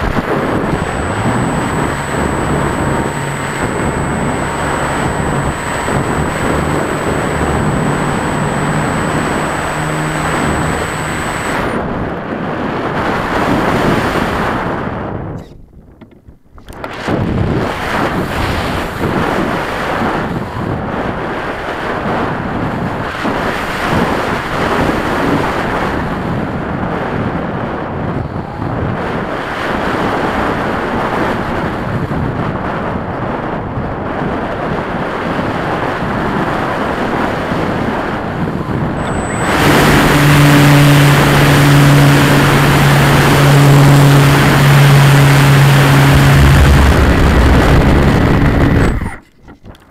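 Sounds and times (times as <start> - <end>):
propeller hum: 0.0 - 49.9
wind rushing over microphone: 0.0 - 49.9.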